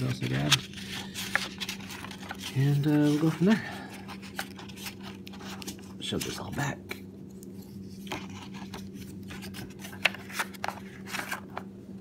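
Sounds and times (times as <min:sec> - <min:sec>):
packaging scraping and rubbing: 0:00.0 - 0:06.4, 0:07.8 - 0:11.6.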